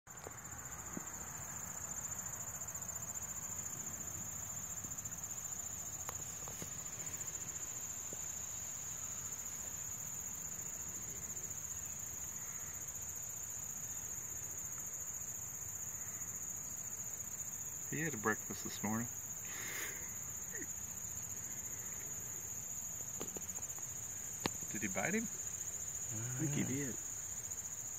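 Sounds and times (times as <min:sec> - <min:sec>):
insects trilling: 0:00.1 - 0:27.9.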